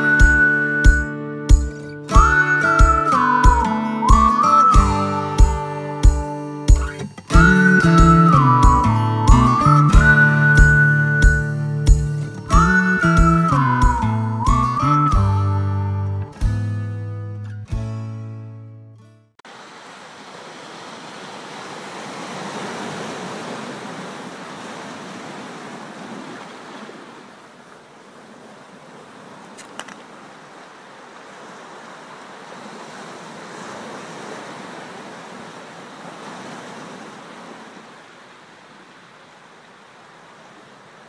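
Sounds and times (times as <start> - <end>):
ocean surf washing onto beach: 0.0 - 14.7, 19.5 - 41.0.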